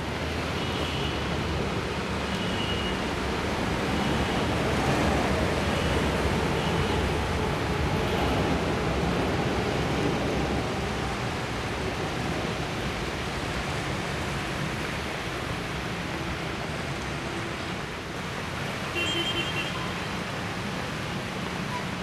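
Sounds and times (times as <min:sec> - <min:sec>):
cars wading through floodwater: 0:00.0 - 0:22.0
heavy rain: 0:00.0 - 0:22.0.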